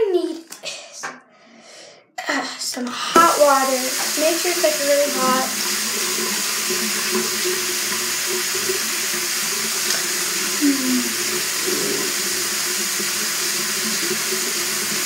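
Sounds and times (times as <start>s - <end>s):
tap water running into sink: 2.7s - 15.0s.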